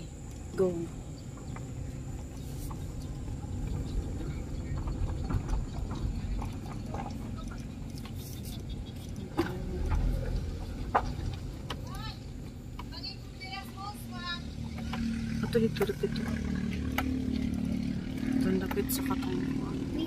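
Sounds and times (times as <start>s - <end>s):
car engine rumbling: 0.0s - 20.0s
tyres rolling on dirt track: 0.0s - 20.0s.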